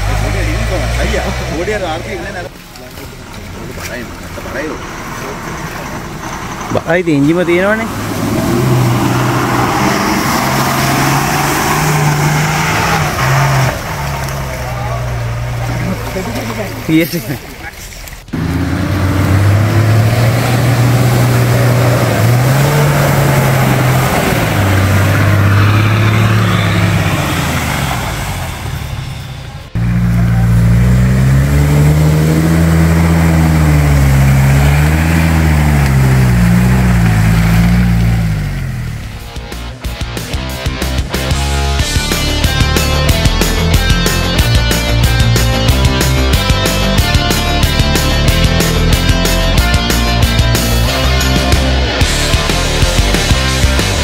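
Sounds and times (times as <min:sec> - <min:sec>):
diesel engine pulling hard: 0:00.0 - 0:54.0.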